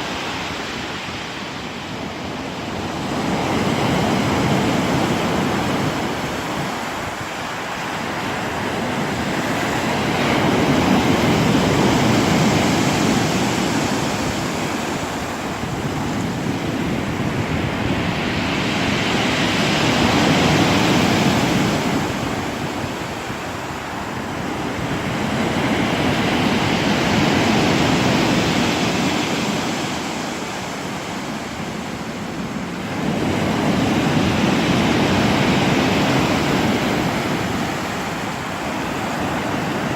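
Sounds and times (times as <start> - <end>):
surf breaking on shore: 0.0 - 39.9.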